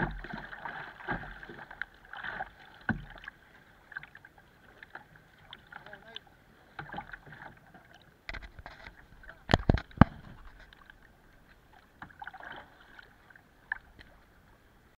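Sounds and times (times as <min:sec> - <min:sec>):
water splashing against hull: 0:00.0 - 0:14.9.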